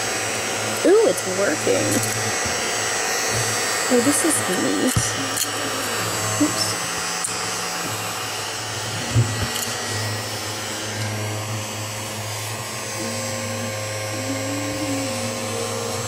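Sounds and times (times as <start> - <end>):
mini vacuum running: 0.0 - 16.0.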